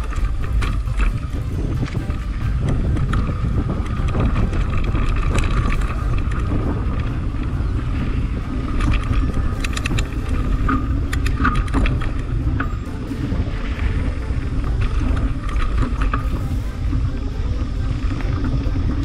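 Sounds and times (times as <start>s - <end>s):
bike rattling over bumps: 0.0s - 19.0s
bike tyres rumbling on dirt: 0.0s - 19.0s
wind on microphone: 0.0s - 19.0s.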